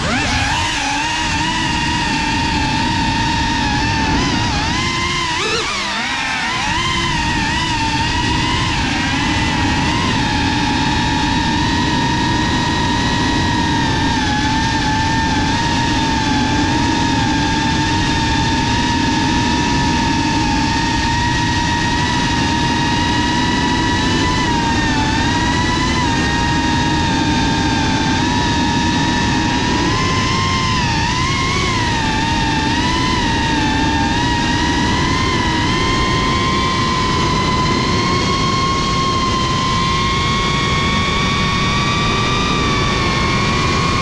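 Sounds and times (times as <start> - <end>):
drone motors and propellers whining: 0.0 - 44.0
steady rushing noise: 0.0 - 44.0.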